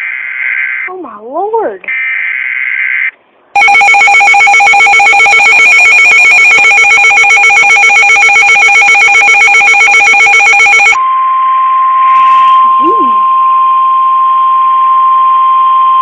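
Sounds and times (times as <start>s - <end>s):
two-tone buzzing alarm: 1.9s - 16.0s.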